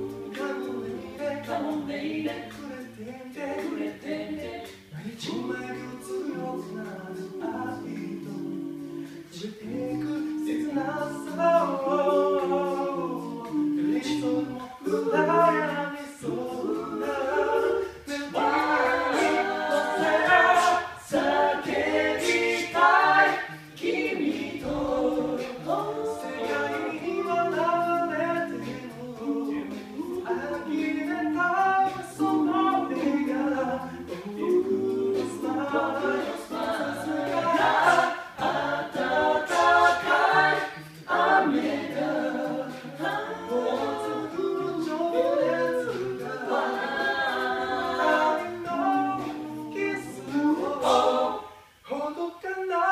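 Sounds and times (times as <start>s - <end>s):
vocal group singing in harmony: 0.0s - 52.9s.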